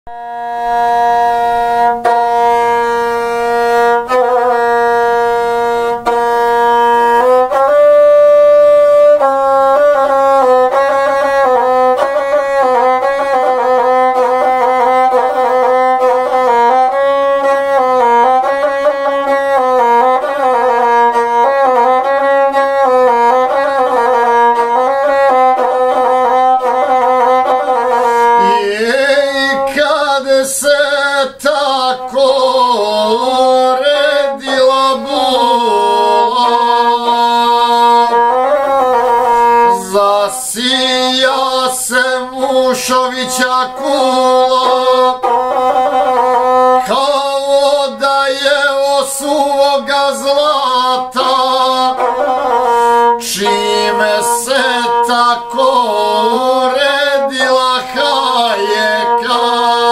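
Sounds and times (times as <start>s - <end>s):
bowed single-string fiddle: 0.1s - 59.9s.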